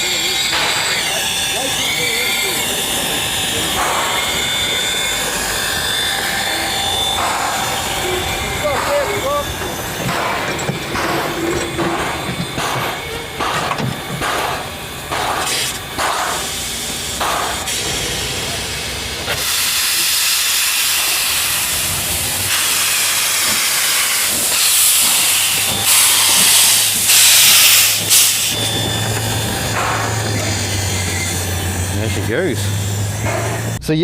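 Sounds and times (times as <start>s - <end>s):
steam hissing: 0.0s - 33.8s
steam locomotive chuffing: 0.0s - 34.0s.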